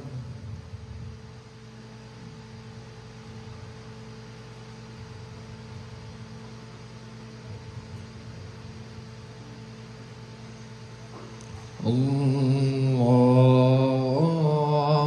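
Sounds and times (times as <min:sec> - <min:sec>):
electrical mains hum: 0:00.0 - 0:15.0
faint room noise of hall: 0:00.0 - 0:15.0.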